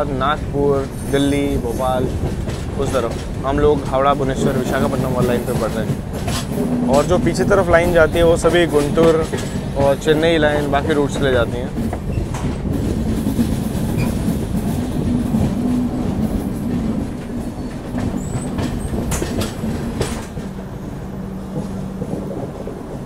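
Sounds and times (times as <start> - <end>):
wheel and rail rumble: 0.0 - 23.0
wheels clicking over joints: 0.8 - 20.6.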